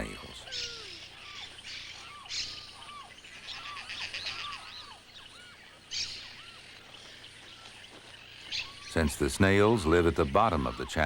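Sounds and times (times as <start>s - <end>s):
birds whistling calls: 0.0s - 11.0s
harsh bird chatter: 0.0s - 11.0s.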